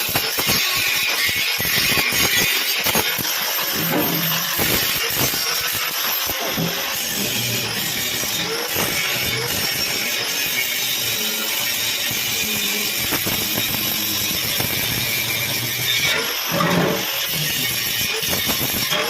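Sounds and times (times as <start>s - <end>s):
power tool hissing on metal: 0.0s - 19.0s.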